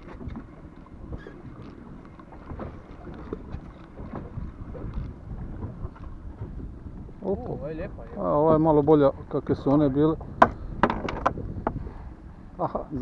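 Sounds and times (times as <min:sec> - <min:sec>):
water lapping against boat hull: 0:00.0 - 0:13.0
wind on microphone: 0:00.0 - 0:13.0.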